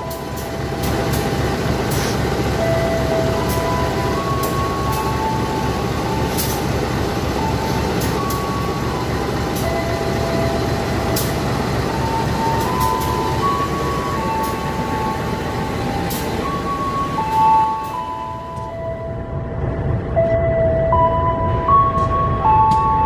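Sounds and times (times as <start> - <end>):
locomotive diesel engine running: 0.0 - 23.0.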